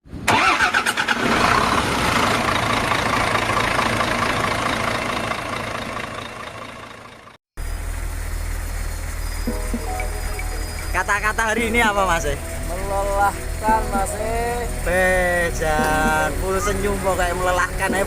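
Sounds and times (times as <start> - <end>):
diesel truck engine idling: 0.3 - 18.0.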